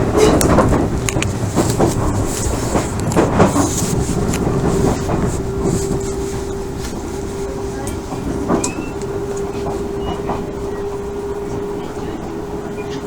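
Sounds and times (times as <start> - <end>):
steady train rumble: 0.0 - 13.0
train wheels clacking over rail joints: 0.0 - 13.0.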